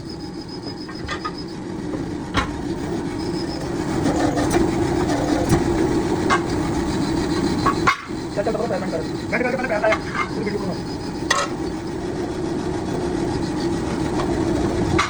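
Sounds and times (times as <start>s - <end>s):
workshop machinery rumbling: 0.0s - 15.0s.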